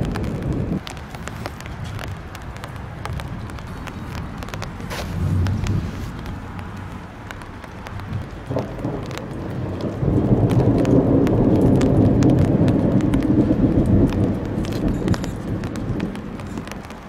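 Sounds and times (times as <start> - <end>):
thunder rumbling: 0.0 - 17.0.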